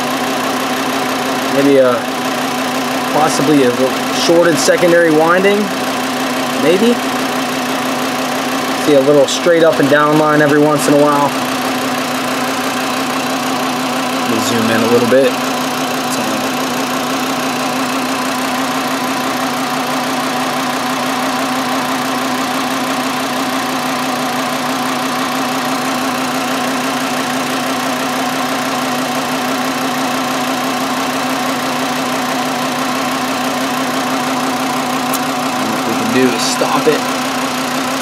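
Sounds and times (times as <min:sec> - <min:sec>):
car engine idling with misfire: 0:00.0 - 0:38.0.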